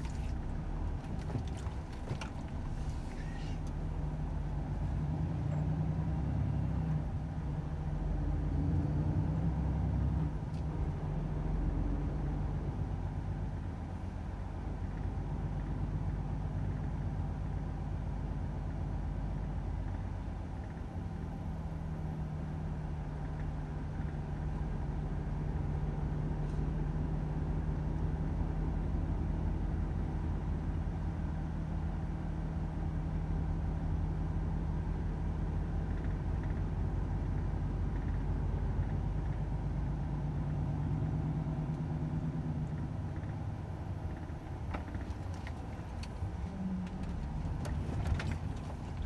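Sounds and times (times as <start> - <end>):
diesel truck engine running: 0.0 - 49.0.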